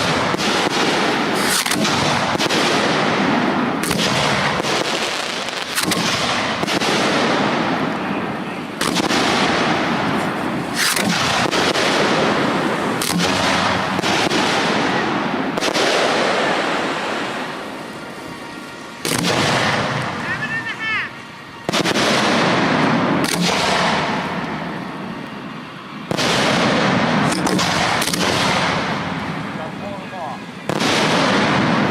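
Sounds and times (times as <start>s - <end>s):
firework booms: 0.0s - 20.7s, 21.5s - 25.2s, 26.0s - 29.8s, 30.6s - 31.9s
fireworks crackling: 0.0s - 31.9s.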